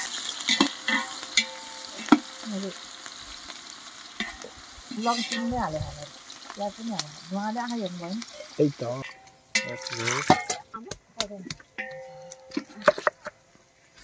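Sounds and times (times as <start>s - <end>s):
onion and garlic sizzling in oil: 0.0s - 14.0s.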